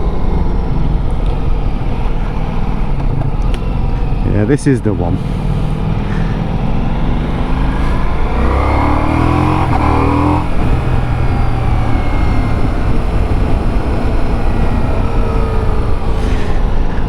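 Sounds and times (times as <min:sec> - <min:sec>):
motorcycle engine at road speed: 0:00.0 - 0:17.0.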